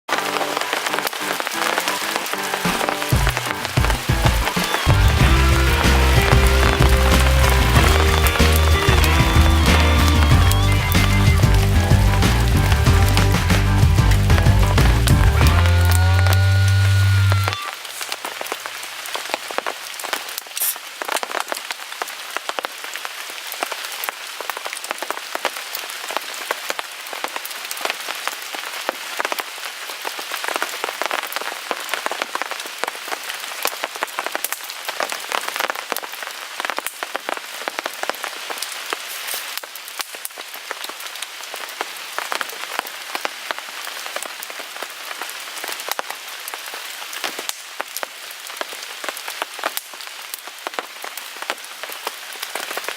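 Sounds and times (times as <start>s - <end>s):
rain on a tarp: 0.0s - 52.9s.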